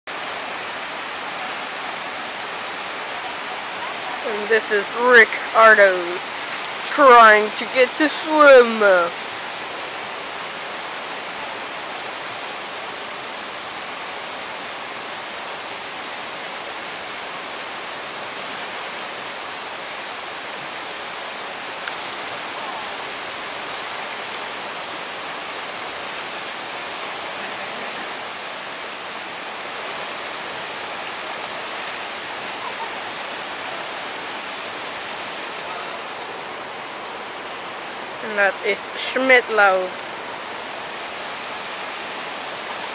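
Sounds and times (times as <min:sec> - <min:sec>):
river water rushing over cascade: 0:00.1 - 0:42.9.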